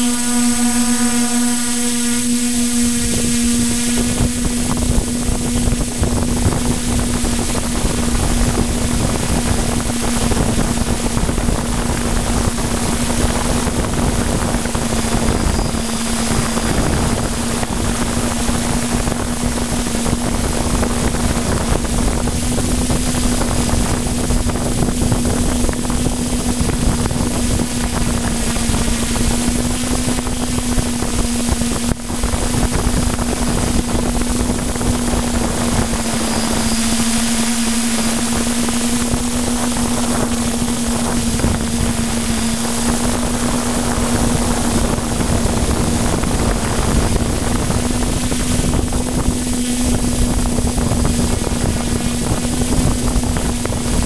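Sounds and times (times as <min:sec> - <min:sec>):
drone motors humming: 0:00.0 - 0:54.0
rushing airflow: 0:00.0 - 0:54.0.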